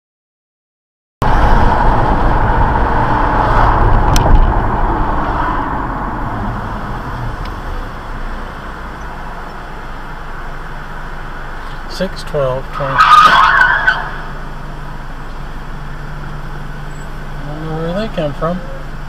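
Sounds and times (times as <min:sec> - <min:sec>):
car road and tyre noise: 0:01.2 - 0:19.0.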